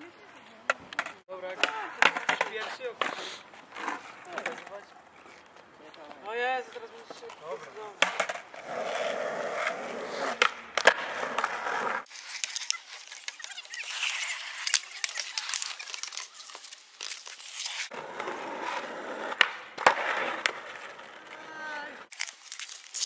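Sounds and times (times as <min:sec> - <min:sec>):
skateboard wheels rolling on asphalt: 0:00.2 - 0:23.0
skateboard clacking on ground: 0:00.6 - 0:08.8, 0:10.3 - 0:16.7, 0:18.0 - 0:22.0.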